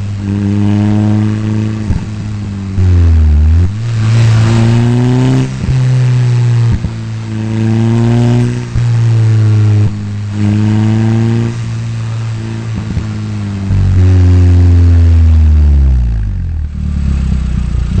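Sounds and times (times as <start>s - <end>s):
car engine while driving: 0.0s - 18.0s.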